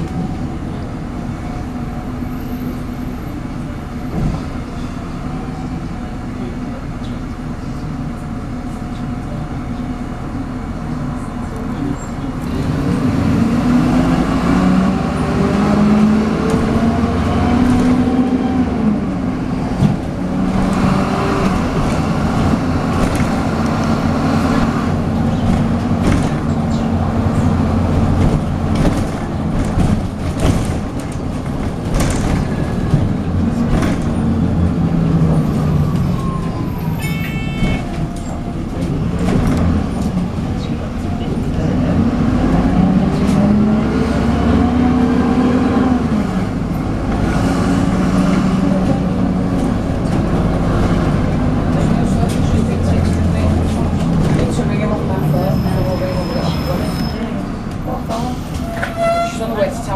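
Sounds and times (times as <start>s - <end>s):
bus diesel engine accelerating: 0.0s - 37.0s, 37.6s - 59.9s.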